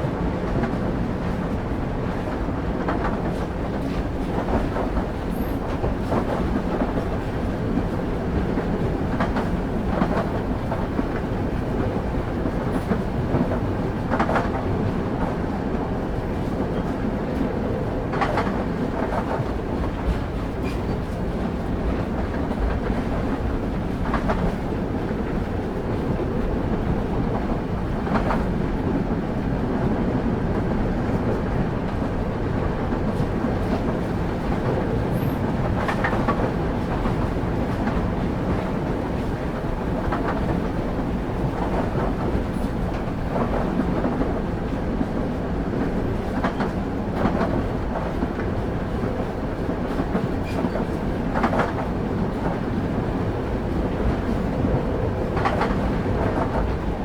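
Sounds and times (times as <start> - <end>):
rail joint click: 0.0 - 57.0
train wheels rumbling on track: 0.0 - 57.0.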